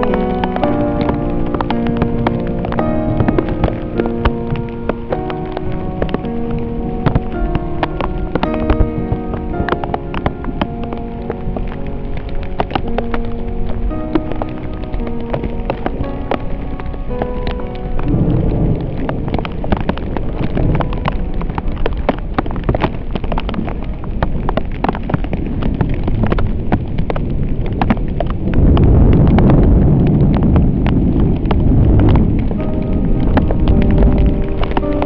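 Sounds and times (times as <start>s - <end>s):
low rumble: 0.0s - 35.0s
raindrops striking camera: 0.0s - 35.0s.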